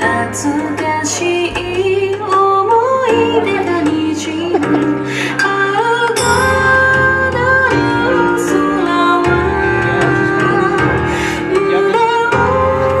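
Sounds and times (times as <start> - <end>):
slow music of long held notes: 0.0 - 13.0.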